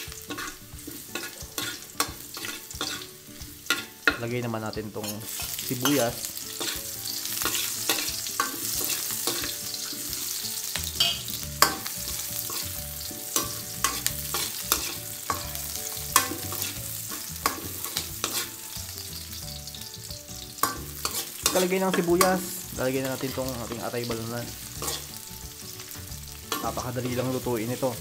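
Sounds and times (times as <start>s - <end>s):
metal ladle scraping a pan: 0.0s - 4.2s, 5.0s - 27.4s
onion sizzling in hot oil: 0.0s - 28.0s.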